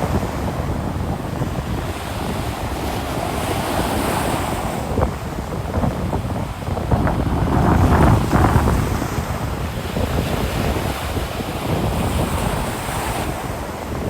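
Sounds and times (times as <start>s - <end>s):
ocean waves breaking on beach: 0.0s - 14.0s
wind buffeting microphone: 0.0s - 14.0s.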